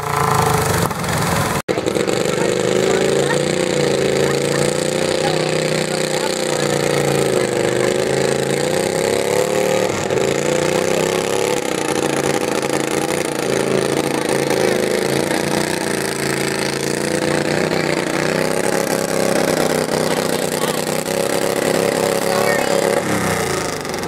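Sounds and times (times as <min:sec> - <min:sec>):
garden tractor engine revving: 0:00.0 - 0:24.0.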